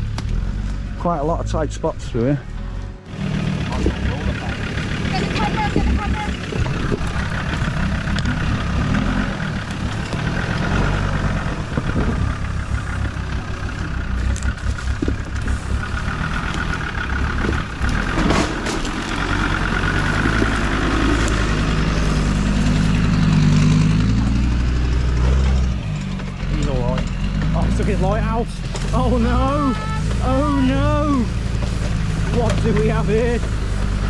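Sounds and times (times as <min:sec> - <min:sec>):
vehicle engine at low revs: 0:00.0 - 0:34.0.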